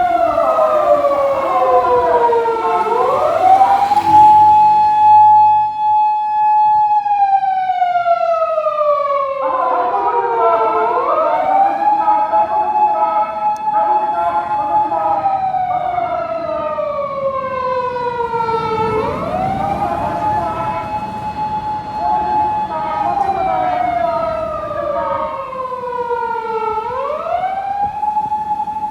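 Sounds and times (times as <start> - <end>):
police siren wailing: 0.0 - 28.9.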